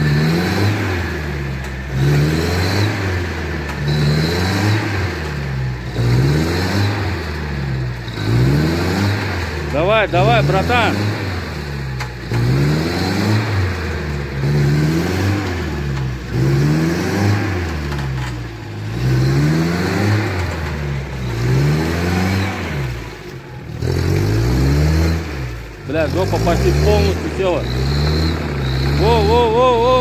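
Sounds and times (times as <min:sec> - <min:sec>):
van engine revving: 0:00.0 - 0:30.0
wheels churning in mud: 0:00.0 - 0:30.0.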